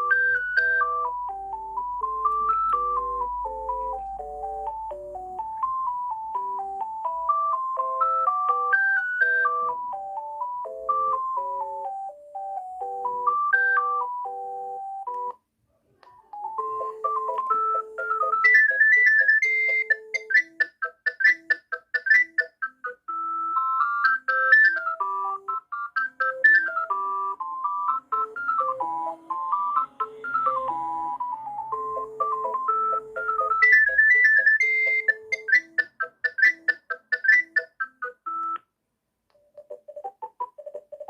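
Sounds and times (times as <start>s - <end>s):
mobile phone ringtone melodies: 0.0s - 15.4s, 16.4s - 38.6s.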